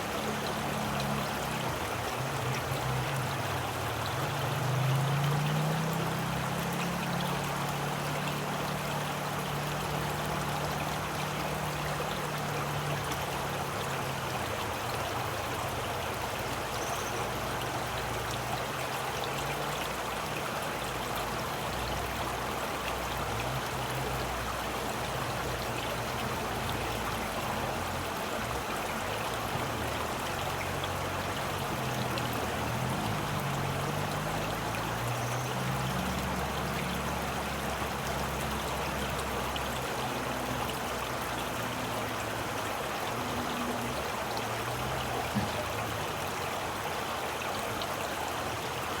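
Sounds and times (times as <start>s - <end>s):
running water flowing: 0.0s - 49.0s.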